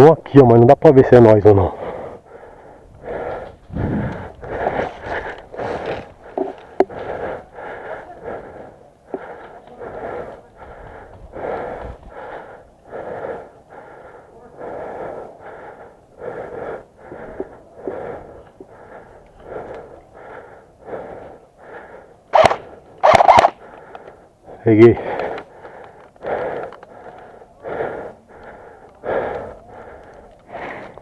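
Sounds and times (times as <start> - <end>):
heavy rasping breathing: 1.5 - 31.0.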